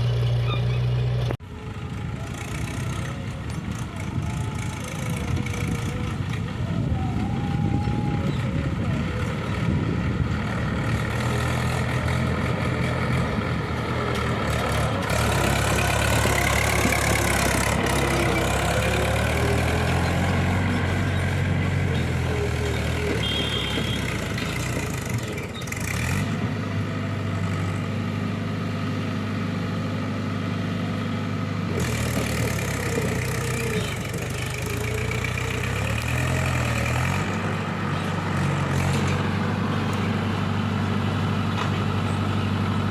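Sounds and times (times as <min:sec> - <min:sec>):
heavy diesel engine revving: 0:00.0 - 0:42.9.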